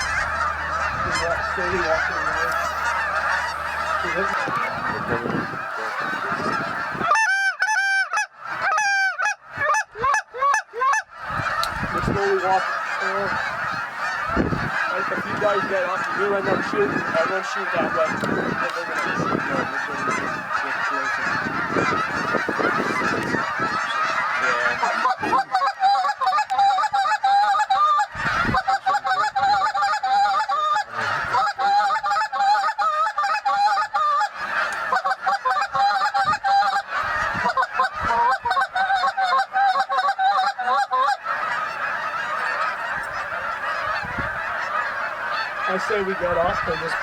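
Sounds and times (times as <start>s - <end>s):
close goose honks: 0.0s - 47.0s
flock of geese honking: 0.0s - 47.0s.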